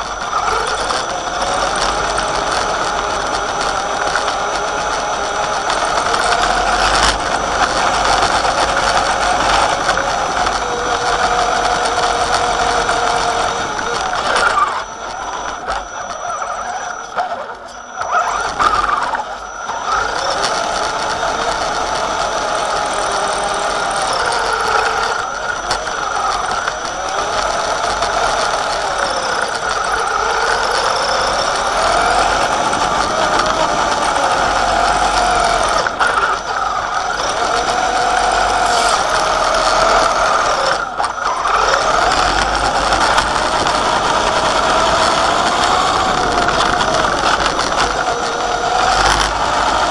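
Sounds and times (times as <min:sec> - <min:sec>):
electric motor and gearbox whining: 0:00.0 - 0:49.9.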